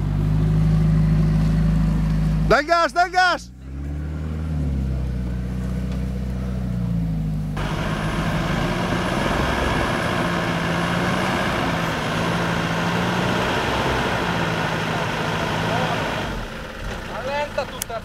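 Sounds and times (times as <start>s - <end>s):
off-road vehicle engine under throttle: 0.0s - 18.0s
second vehicle engine running: 0.0s - 18.0s.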